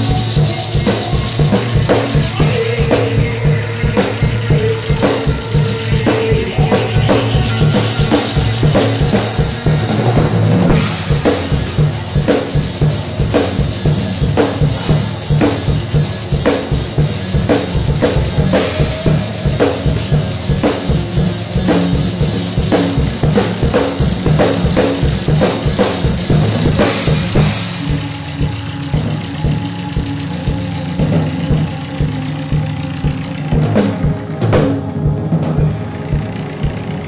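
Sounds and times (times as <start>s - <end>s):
drum kit beating: 0.0s - 37.0s
electric guitar: 0.0s - 37.0s
live band playing: 0.0s - 37.0s.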